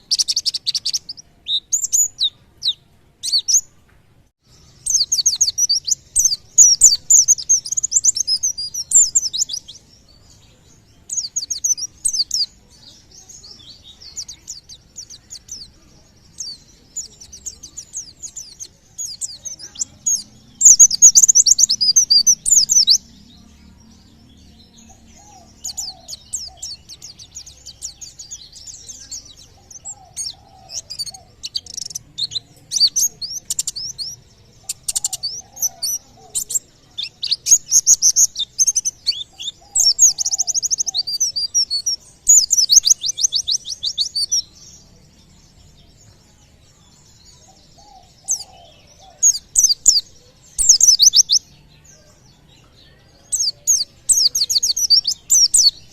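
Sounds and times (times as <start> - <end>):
small bird twittering and trilling: 0.0 - 55.9.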